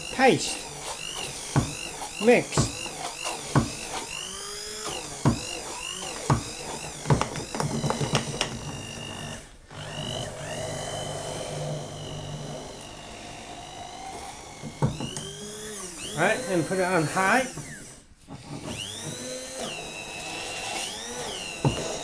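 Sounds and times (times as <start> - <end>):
stick blender motor whine: 0.0 - 22.0.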